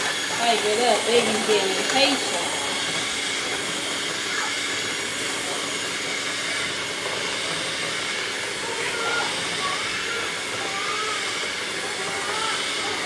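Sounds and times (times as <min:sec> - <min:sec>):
electric hand mixer whipping batter: 0:00.0 - 0:13.0.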